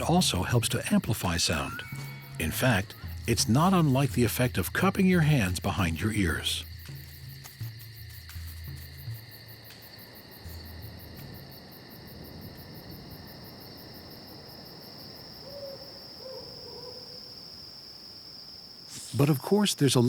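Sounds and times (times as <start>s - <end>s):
insect chorus trilling: 0.0s - 20.0s.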